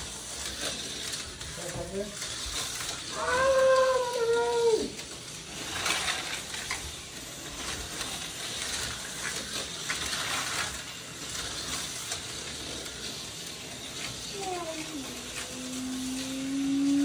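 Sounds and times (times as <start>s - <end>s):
slot cars whirring: 0.0s - 17.0s.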